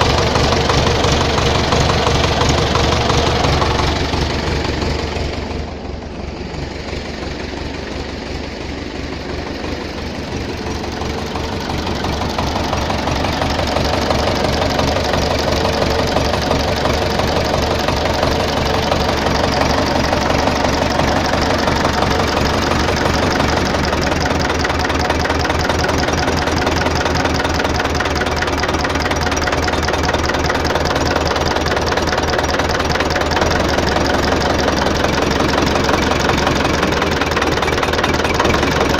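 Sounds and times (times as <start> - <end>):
tractor diesel engine clattering: 0.0 - 38.9.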